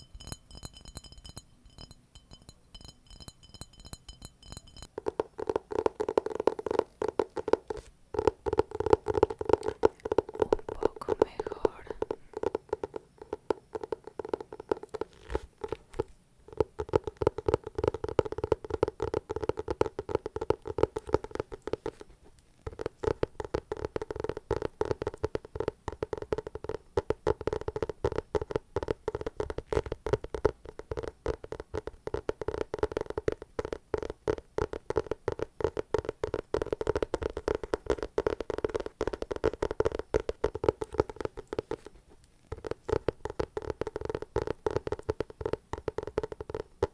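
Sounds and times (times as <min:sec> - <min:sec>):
fast crackling and sticky clicks: 0:04.8 - 0:46.9.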